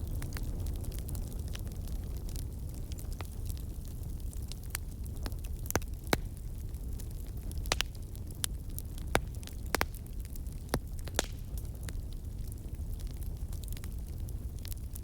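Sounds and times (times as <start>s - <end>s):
fire low rumble: 0.0s - 15.0s
wood crackling and popping: 0.0s - 15.0s.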